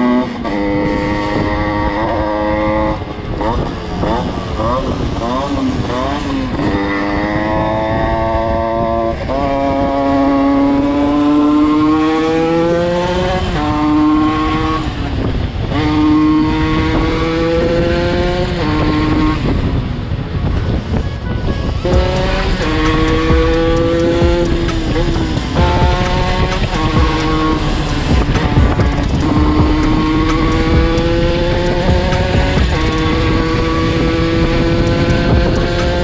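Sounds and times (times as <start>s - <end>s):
dirt bike engine revving: 0.0s - 20.0s, 21.0s - 36.0s
wind rush: 0.0s - 36.0s.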